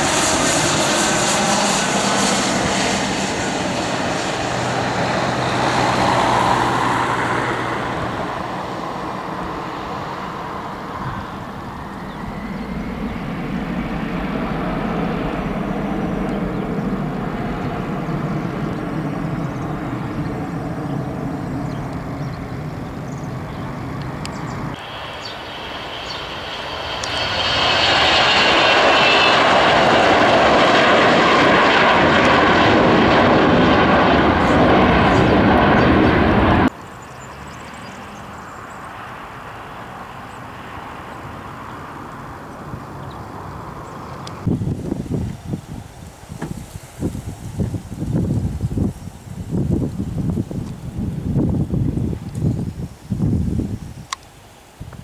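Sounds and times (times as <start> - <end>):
jet flying low: 0.0 - 55.0
jet taking off with turbine whine: 0.0 - 55.0
jet taxiing: 0.0 - 55.0.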